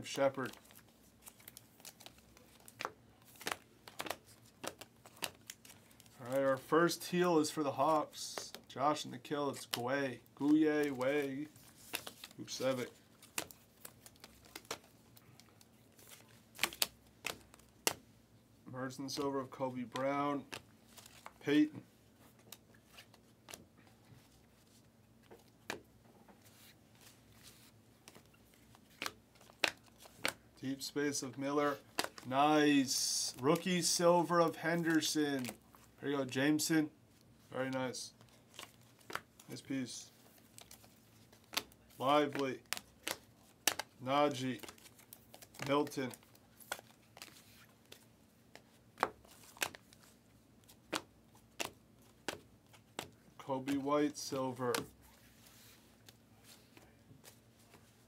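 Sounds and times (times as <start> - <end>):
cards rustling and clicking: 0.1 - 18.1, 18.9 - 58.0.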